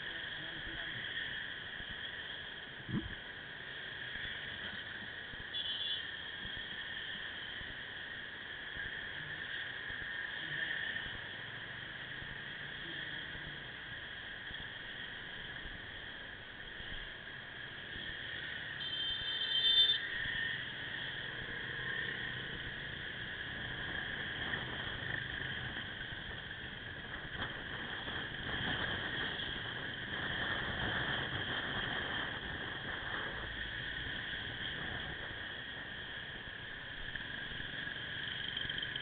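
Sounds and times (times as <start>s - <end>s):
motorcycle riding in traffic: 0.0s - 39.0s.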